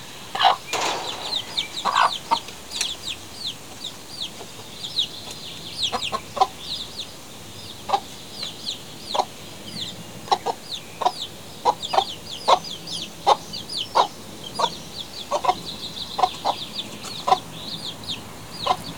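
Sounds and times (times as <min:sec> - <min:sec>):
chickens clucking: 0:00.3 - 0:09.4, 0:10.2 - 0:17.6
chicks peeping: 0:00.4 - 0:18.9.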